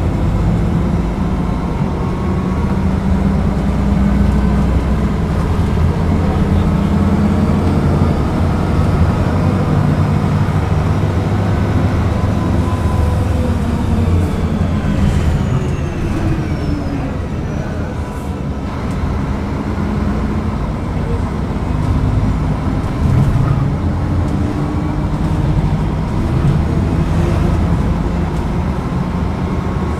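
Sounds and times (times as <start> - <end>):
bus diesel engine droning: 0.0 - 29.9.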